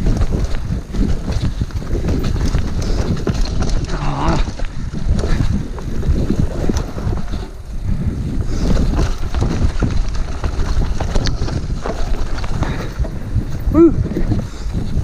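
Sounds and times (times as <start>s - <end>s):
tyres rumbling on dirt: 0.0s - 15.0s
wind buffeting microphone: 0.0s - 15.0s.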